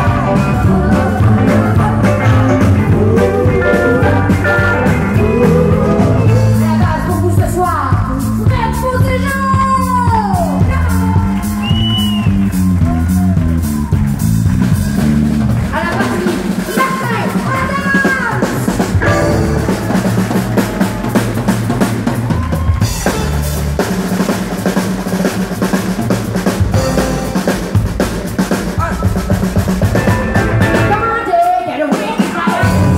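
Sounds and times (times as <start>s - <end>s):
electric bass: 0.0s - 31.6s, 32.6s - 32.9s
country band playing: 0.0s - 32.9s
drum kit beat: 0.0s - 32.9s.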